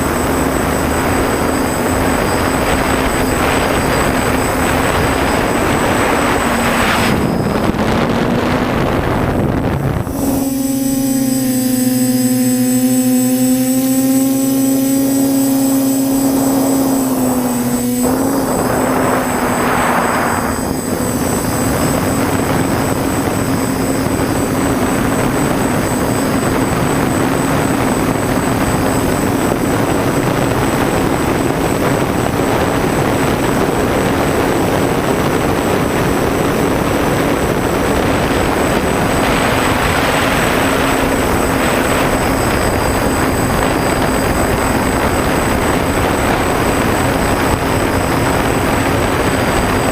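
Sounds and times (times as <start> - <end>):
quadcopter motors humming: 0.0 - 49.9
rushing propeller noise: 0.0 - 49.9.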